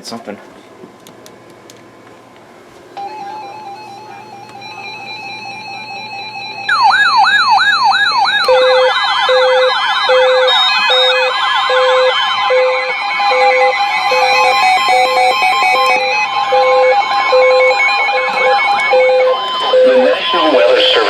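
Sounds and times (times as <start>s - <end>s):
falling siren-like sweeps: 3.0s - 21.0s
low pulsing beep: 3.0s - 21.0s
steady electronic alarm tone: 3.0s - 21.0s.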